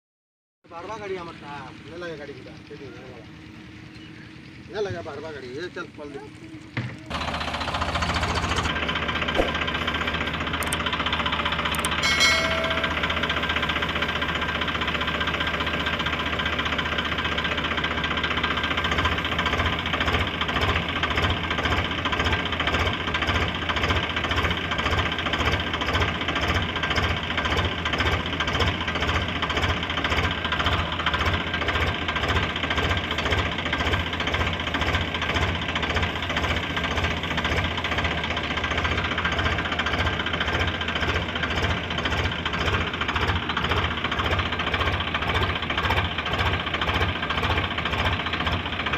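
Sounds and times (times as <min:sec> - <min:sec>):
tractor diesel engine running: 0:00.6 - 0:48.9.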